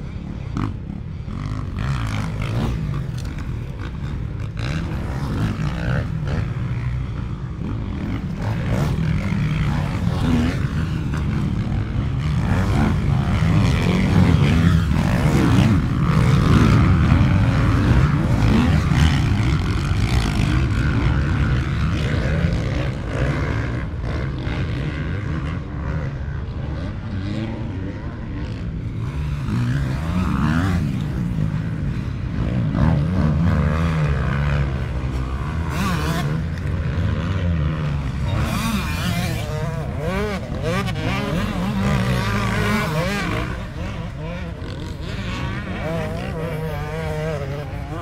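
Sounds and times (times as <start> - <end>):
motocross engines revving: 0.0 - 48.0.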